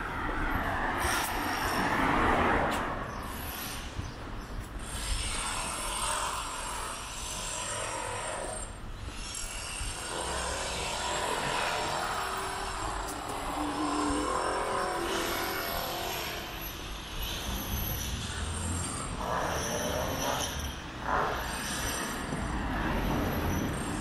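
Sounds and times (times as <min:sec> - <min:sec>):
cars passing: 0:00.0 - 0:24.0
urban hum: 0:00.0 - 0:24.0.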